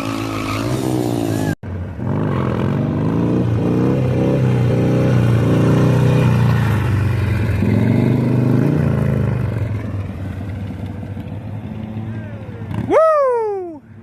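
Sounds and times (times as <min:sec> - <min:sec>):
motorcycle engine accelerating: 0:00.0 - 0:13.2.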